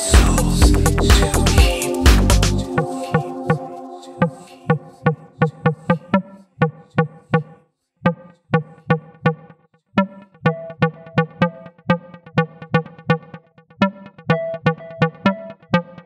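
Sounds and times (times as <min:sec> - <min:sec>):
fast beat music with held tones: 0:00.0 - 0:16.0.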